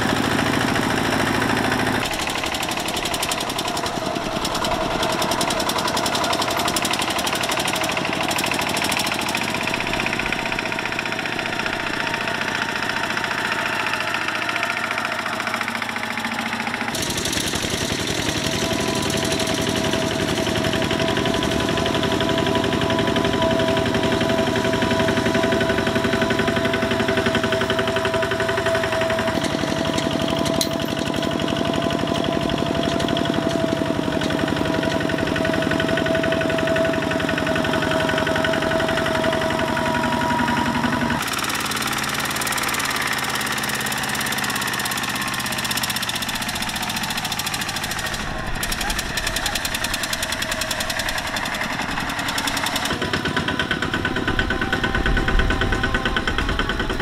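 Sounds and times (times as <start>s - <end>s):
tractor diesel engines chugging: 0.0s - 57.0s.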